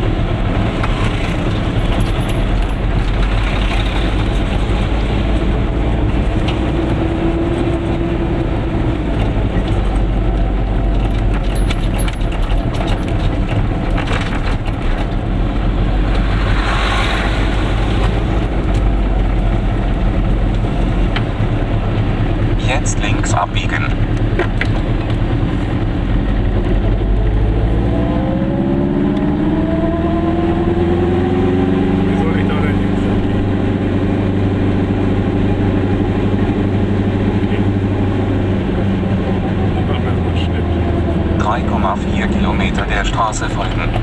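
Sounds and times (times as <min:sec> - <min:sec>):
road and wind noise: 0:00.0 - 0:44.0
small car engine droning: 0:00.0 - 0:44.0.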